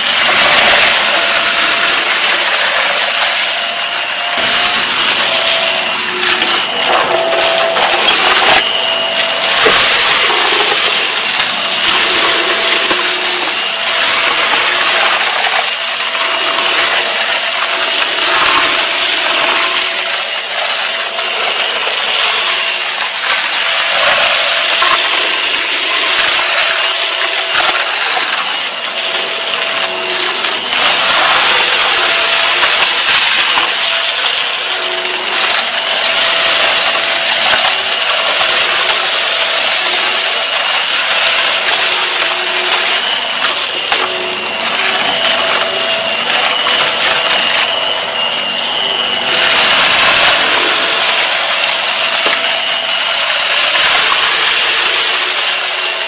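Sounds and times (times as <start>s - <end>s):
debris crackling into vacuum: 0.0s - 56.0s
stick vacuum motor whine: 0.0s - 56.0s.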